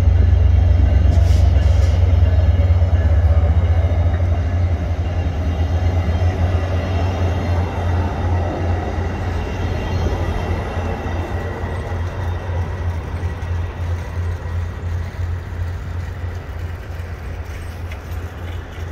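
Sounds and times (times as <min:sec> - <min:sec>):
train cars rolling on rails: 0:00.0 - 0:18.9.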